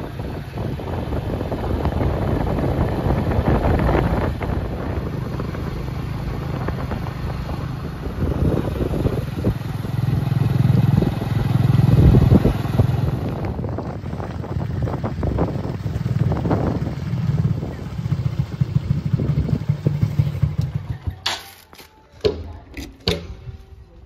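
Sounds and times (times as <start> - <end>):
wind on microphone: 0.0 - 20.6
motorcycle engine running: 0.0 - 21.3.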